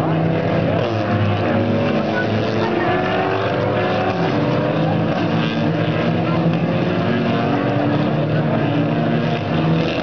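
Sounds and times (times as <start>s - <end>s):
race car engines: 0.0s - 10.0s.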